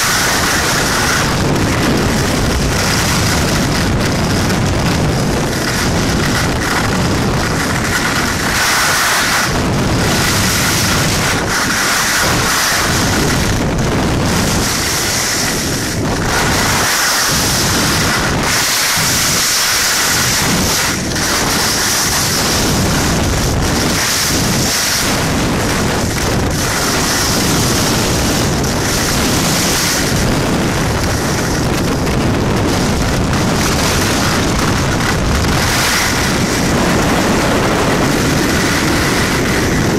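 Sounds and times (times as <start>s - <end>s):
skis scraping on snow: 0.0s - 39.9s
wind rushing over microphone: 0.0s - 39.9s.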